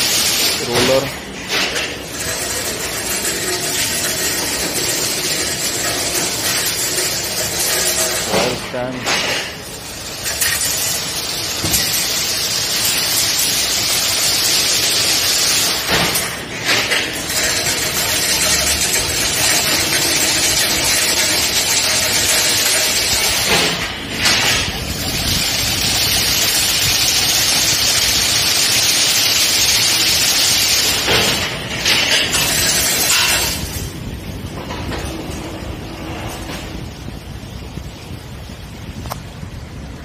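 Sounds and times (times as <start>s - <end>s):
sharp mechanical knocks: 0.0s - 35.4s
fence-weaving machine rushing noise: 0.0s - 39.0s.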